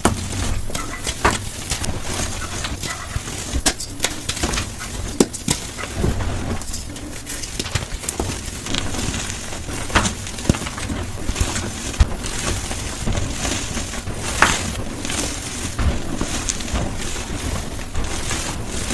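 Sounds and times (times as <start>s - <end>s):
chalk blocks crunching: 0.0s - 18.9s.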